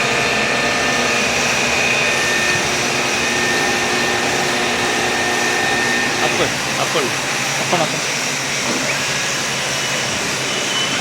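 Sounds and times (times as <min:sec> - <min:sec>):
milling machine whine: 0:00.0 - 0:11.0.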